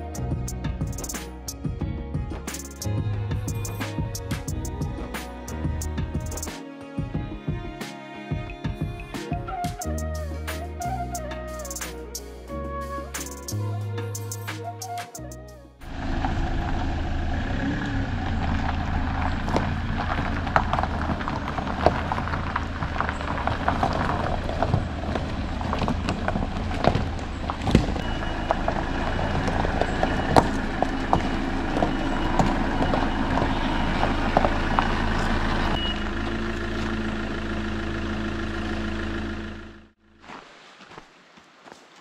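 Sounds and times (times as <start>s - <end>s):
vehicle engine hum: 0.0s - 6.7s, 9.8s - 40.3s.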